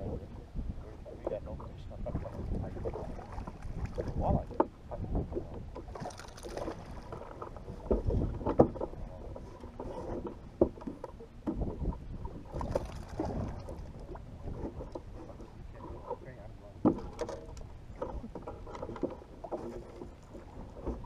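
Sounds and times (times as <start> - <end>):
small waves lapping against a hull: 0.0 - 21.0.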